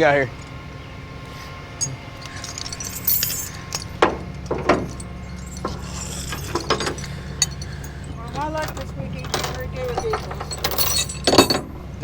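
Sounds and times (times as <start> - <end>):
steady low hum: 0.0 - 12.0
clinks and knocks: 1.8 - 12.0.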